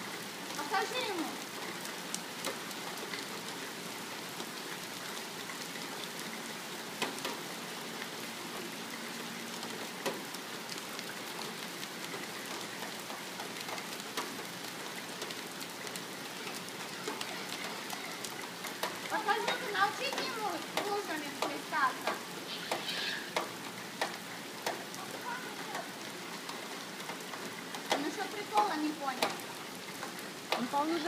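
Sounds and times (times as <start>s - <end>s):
steady rain hissing: 0.0s - 31.0s.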